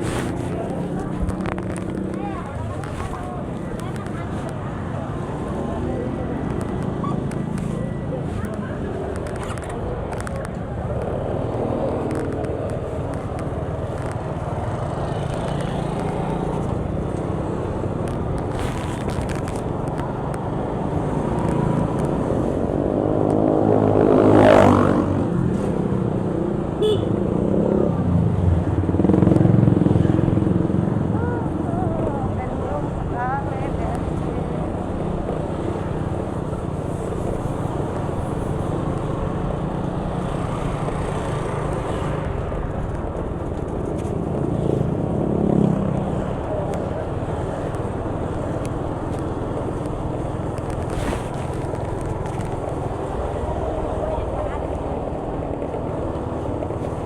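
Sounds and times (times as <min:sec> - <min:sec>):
road traffic noise: 0:00.0 - 0:57.0
vehicle engine: 0:00.0 - 0:57.0.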